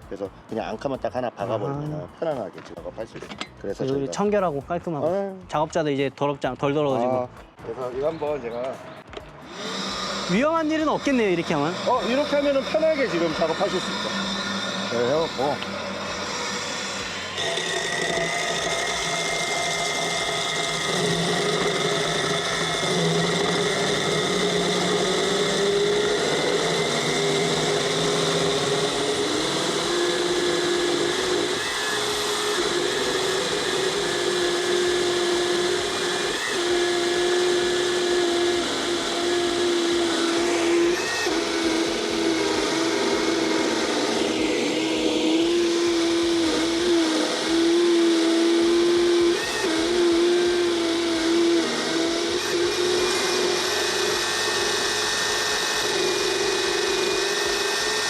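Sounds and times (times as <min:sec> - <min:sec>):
core drill whining through concrete: 0:09.2 - 0:58.0
vacuum drawing off dust: 0:09.4 - 0:58.0.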